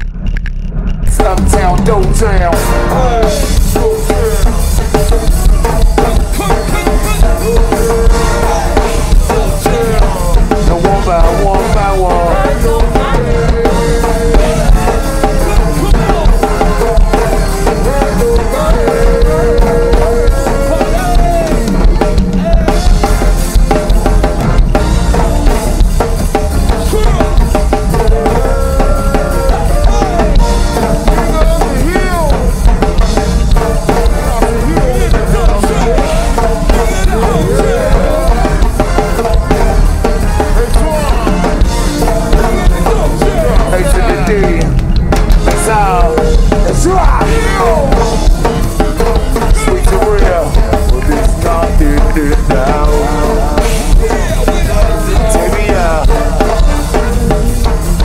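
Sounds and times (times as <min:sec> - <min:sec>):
music with steady drum beat: 0:01.0 - 0:58.0.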